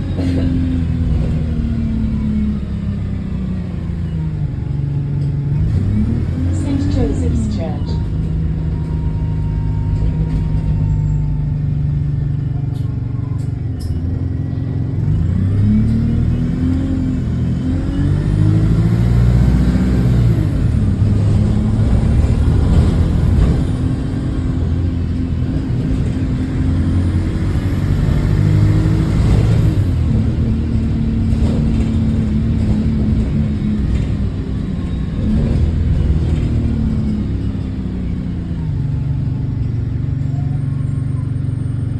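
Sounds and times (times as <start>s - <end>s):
bus engine with exhaust leak: 0.0s - 41.9s.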